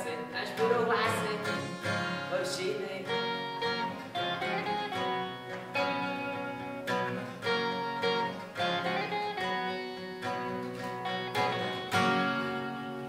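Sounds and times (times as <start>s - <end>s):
acoustic guitar strumming: 0.0s - 13.0s
electric guitar through amplifier: 0.0s - 13.0s.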